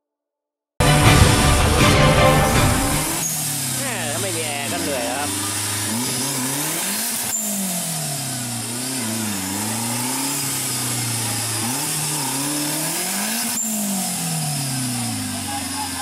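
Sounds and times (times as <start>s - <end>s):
buggy engine revving hard: 0.8s - 16.0s.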